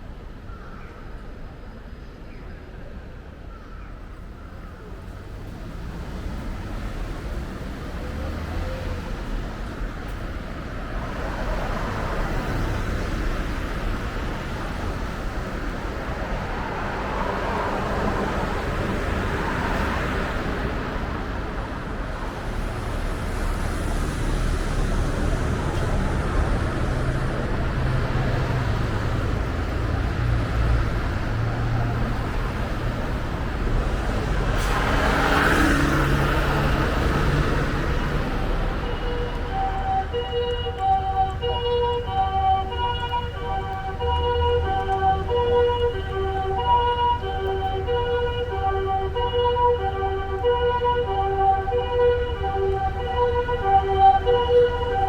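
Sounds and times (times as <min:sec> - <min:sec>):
car engines and tyres passing: 0:04.1 - 0:55.0.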